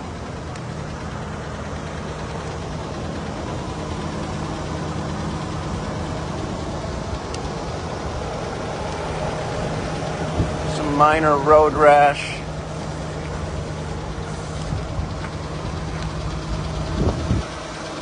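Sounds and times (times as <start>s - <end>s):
constant hiss: 0.0s - 18.0s
engine idling: 0.0s - 18.0s.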